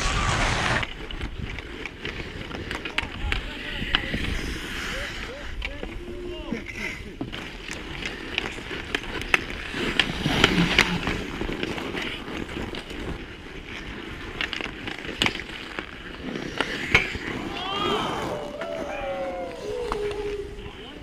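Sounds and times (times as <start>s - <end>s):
hockey sticks and puck clacking: 0.0s - 21.0s
skates scraping on ice: 0.0s - 21.0s.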